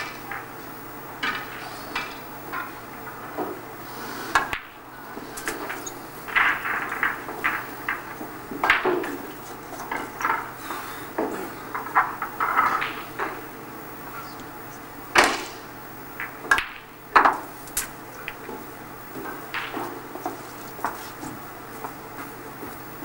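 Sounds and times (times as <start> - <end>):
snooker balls clicking: 0.0 - 23.0.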